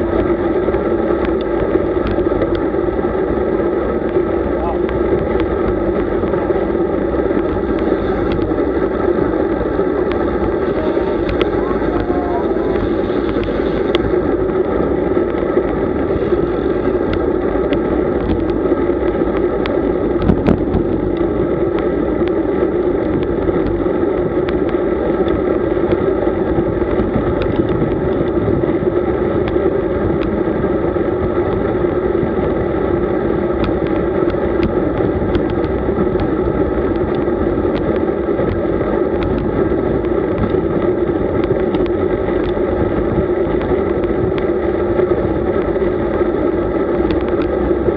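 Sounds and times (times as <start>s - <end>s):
road rumble: 0.0s - 47.9s
wind on microphone: 0.0s - 47.9s.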